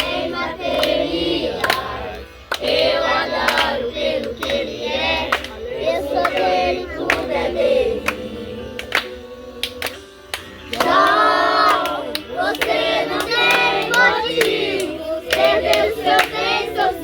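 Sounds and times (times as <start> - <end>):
sharp hand claps: 0.0 - 16.9
backing music: 0.0 - 17.0
group singing gospel song: 0.0 - 17.0.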